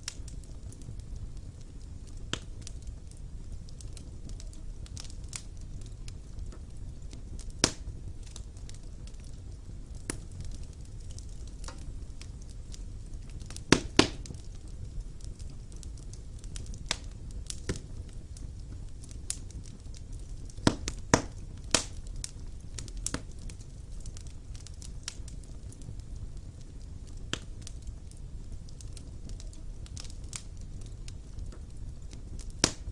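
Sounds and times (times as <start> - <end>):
fire crackles and pops: 0.0 - 32.9
fire rumbling: 0.0 - 32.9.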